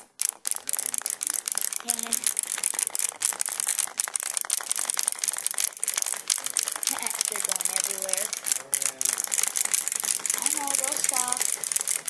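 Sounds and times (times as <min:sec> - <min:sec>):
clockwork mechanisms whirring: 0:00.0 - 0:12.0
toy feet clattering: 0:00.0 - 0:12.0.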